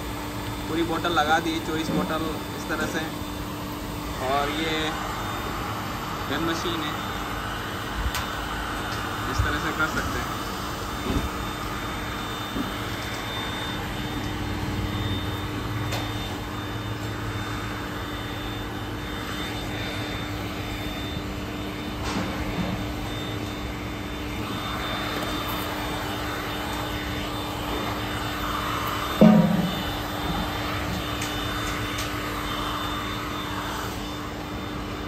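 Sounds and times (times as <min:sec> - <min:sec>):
heat gun humming and blowing: 0:00.0 - 0:35.0.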